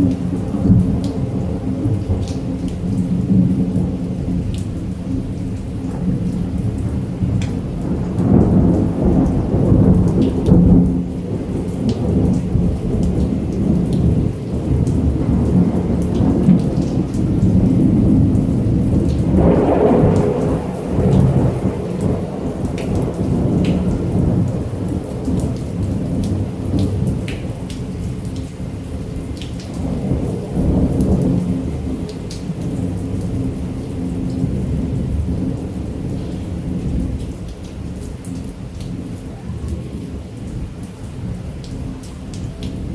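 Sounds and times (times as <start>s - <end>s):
heavy rain: 0.0s - 42.9s
rolling thunder: 0.0s - 42.9s.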